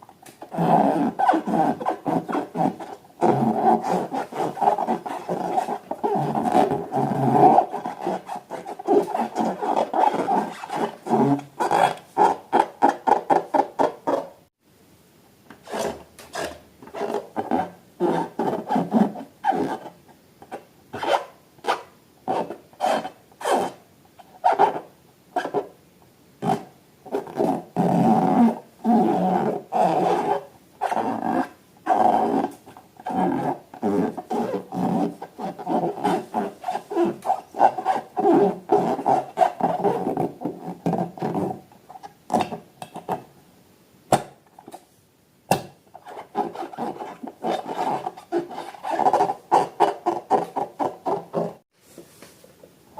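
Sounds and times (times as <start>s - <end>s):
balloons rubbed squeaking: 0.4s - 14.3s, 15.6s - 19.9s, 21.0s - 23.8s, 24.4s - 25.7s, 26.4s - 41.6s, 46.0s - 51.6s.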